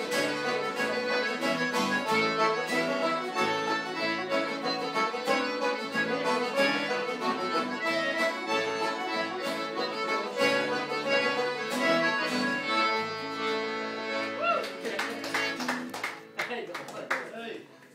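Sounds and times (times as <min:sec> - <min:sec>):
lively traditional folk music: 0:00.0 - 0:16.6.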